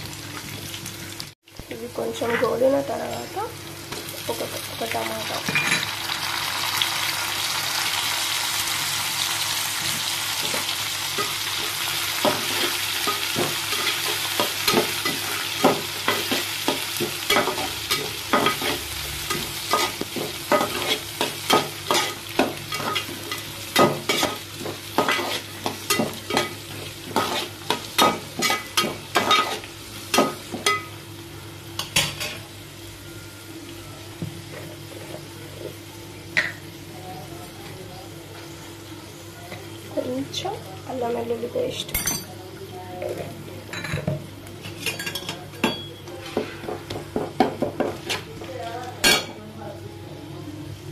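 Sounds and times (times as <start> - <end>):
food sizzling in hot oil: 0.0 - 42.0.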